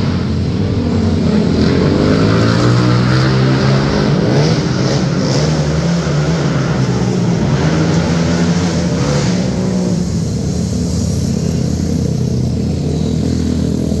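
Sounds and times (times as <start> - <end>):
quad engines running hard: 0.0 - 14.0.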